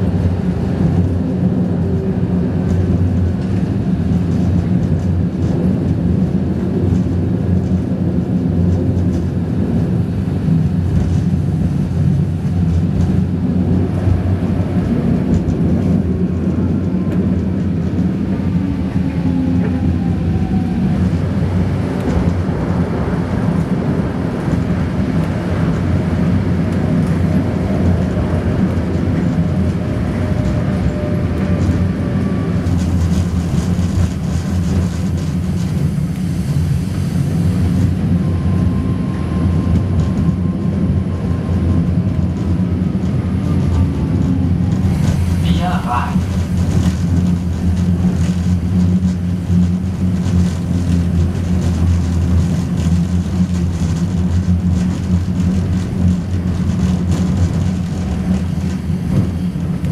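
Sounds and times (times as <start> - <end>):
light-rail train rumbling: 0.0 - 59.9.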